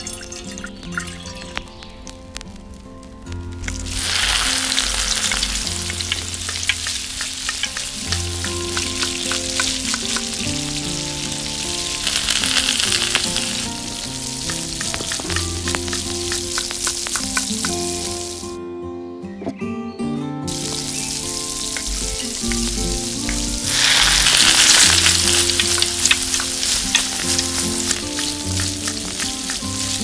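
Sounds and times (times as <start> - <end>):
oil spatters crackling: 0.0 - 18.6, 20.5 - 30.0
onion sizzling in hot oil: 3.4 - 18.6, 20.5 - 30.0.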